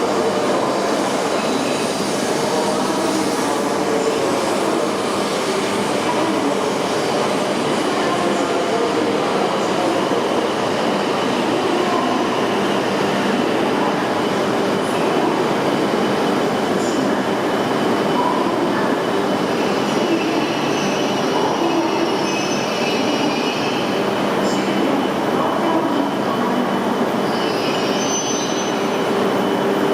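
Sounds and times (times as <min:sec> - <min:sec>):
train rail and machinery noise: 0:00.0 - 0:29.9.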